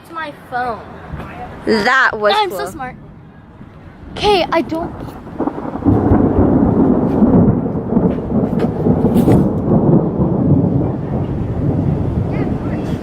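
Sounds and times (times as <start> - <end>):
thunder rumbling: 1.0 - 13.0.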